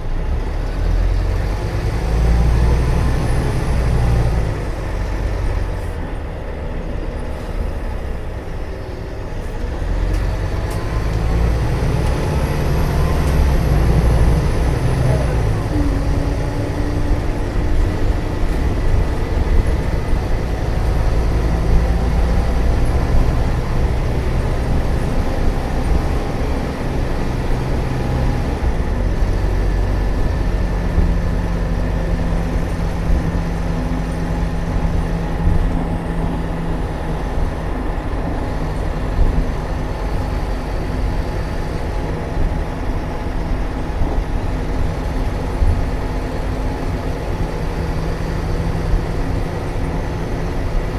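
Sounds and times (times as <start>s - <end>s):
bus diesel engine droning: 0.0s - 50.9s.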